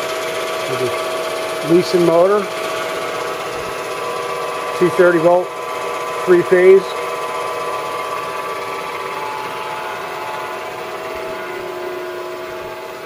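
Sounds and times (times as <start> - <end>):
band saw motor hum and whine: 0.0 - 13.0.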